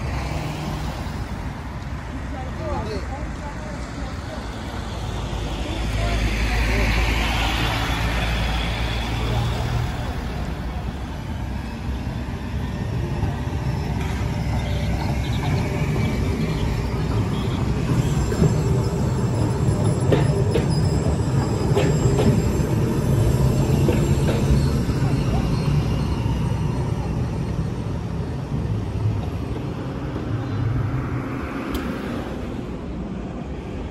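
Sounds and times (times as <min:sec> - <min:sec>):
street traffic: 0:00.0 - 0:33.9
tram wheels rumbling on rails: 0:00.0 - 0:33.9.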